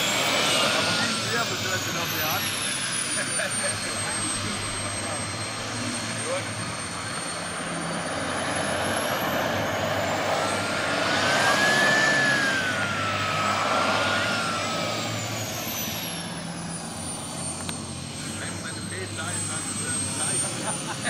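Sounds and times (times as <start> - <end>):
model turboprop engine whine: 0.0 - 21.0.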